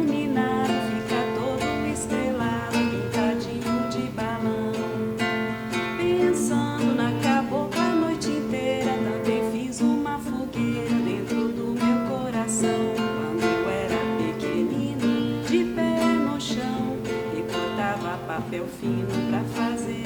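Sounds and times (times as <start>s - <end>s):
song with acoustic guitar: 0.0s - 20.0s.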